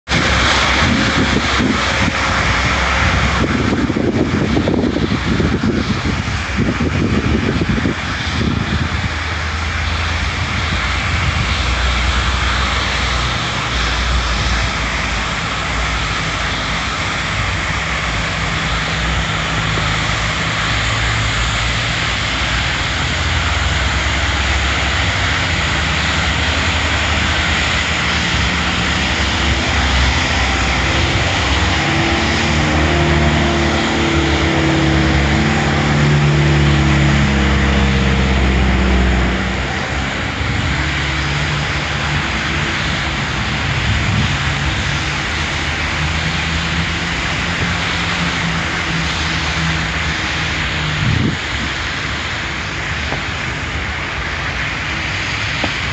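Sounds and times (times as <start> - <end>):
loud engine drone: 0.0 - 55.9
tyre noise on wet road: 0.0 - 55.9.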